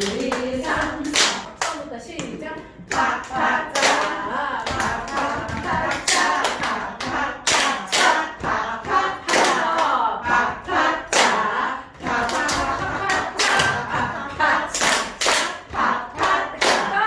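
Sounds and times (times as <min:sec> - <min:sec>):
rhythmic hand claps and body slaps: 0:00.0 - 0:17.0.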